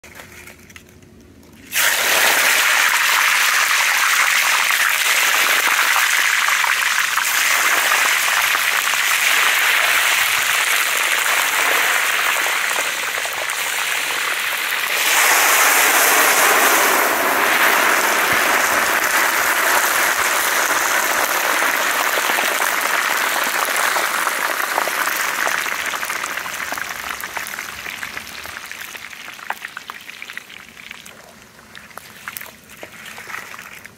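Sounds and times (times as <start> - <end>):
eggshells sizzling in hot oil: 1.7 - 31.0.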